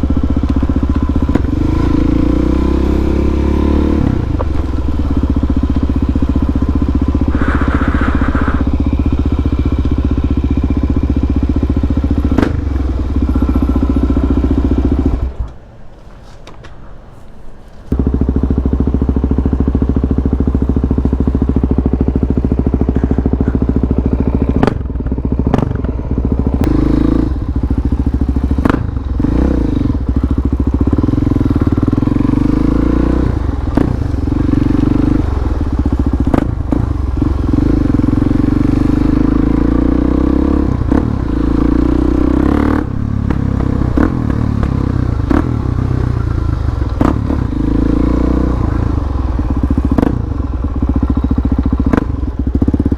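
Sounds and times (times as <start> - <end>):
motorcycle engine running: 0.0 - 15.5, 17.9 - 52.9.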